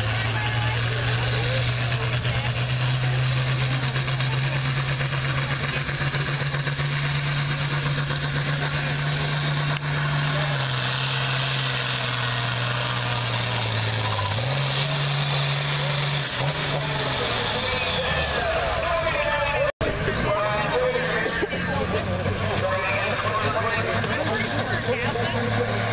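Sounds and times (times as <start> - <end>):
diesel tractor engine under load: 0.0 - 25.9.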